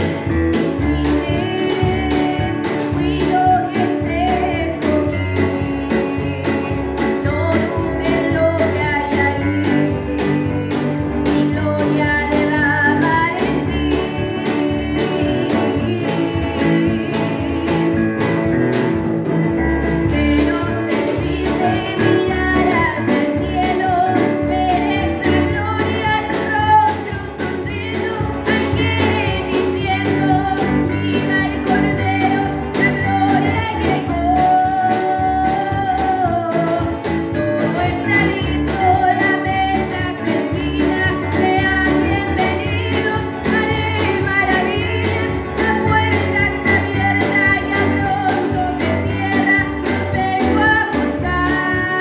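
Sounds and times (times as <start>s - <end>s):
woman singing into microphone: 0.0s - 18.9s, 19.6s - 52.0s
strummed acoustic guitar: 0.0s - 52.0s.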